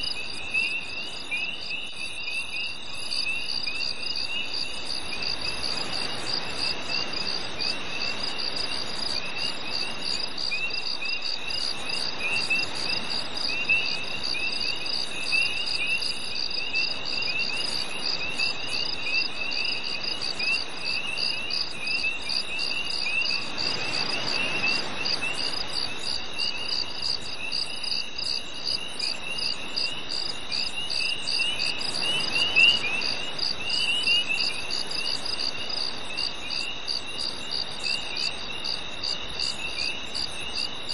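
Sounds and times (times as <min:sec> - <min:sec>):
high pulsing cricket chirp: 0:00.0 - 0:40.9
irregular cricket chirping: 0:00.0 - 0:40.9.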